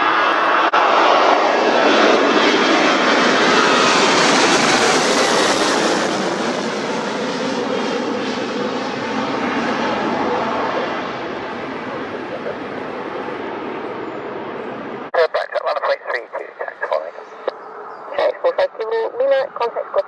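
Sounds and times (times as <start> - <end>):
gliding engine tones: 0.0 - 20.0
jet engines roaring: 0.0 - 20.0.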